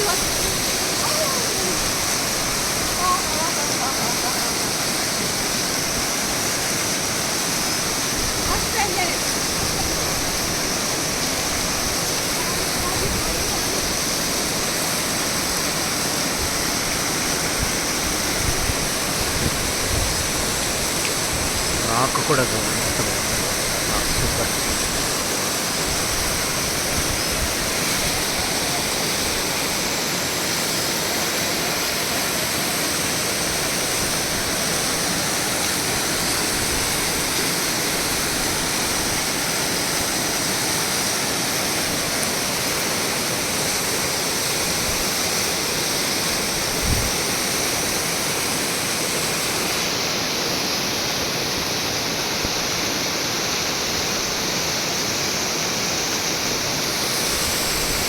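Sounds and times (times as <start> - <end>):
waterfall pouring: 0.0 - 58.0.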